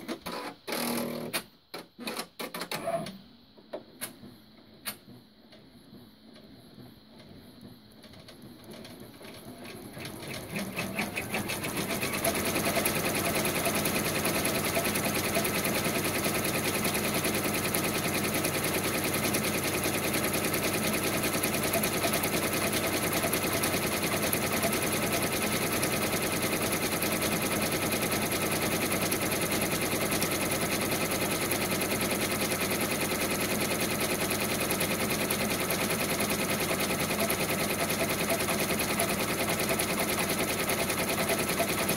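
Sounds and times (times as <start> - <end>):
embroidery machine stitching: 8.0 - 41.9.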